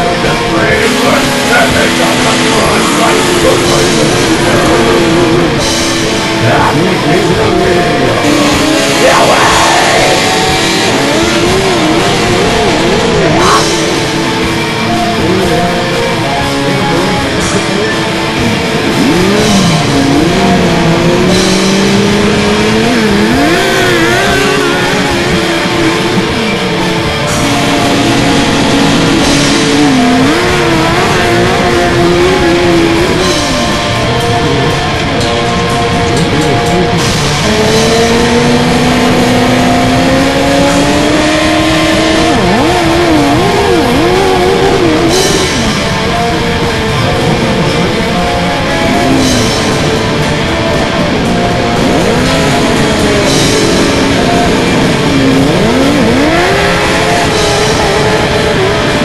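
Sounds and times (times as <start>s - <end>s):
distorted electric guitar lead: 0.0s - 59.0s
heavy rock music: 0.0s - 59.0s.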